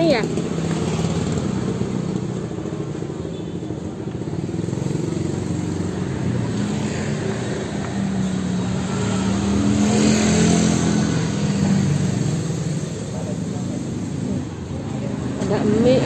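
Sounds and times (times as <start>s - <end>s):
motorbike and scooter engines: 0.0s - 16.0s.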